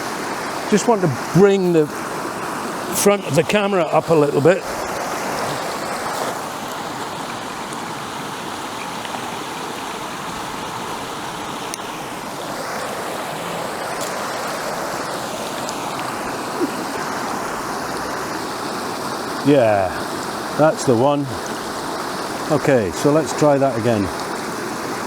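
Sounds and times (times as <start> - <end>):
water rushing over waterfall: 0.0 - 25.0.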